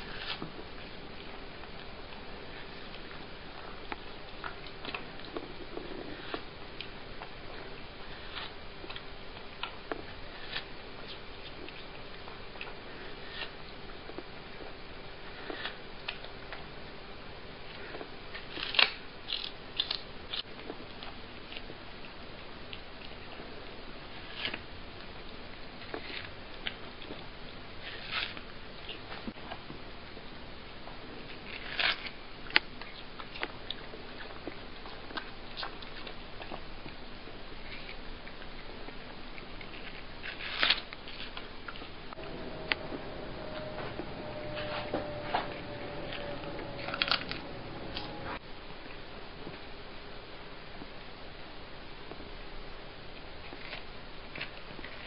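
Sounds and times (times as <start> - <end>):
cat chewing watermelon: 0.0 - 49.7, 52.1 - 55.0
steady background hiss: 0.0 - 55.0.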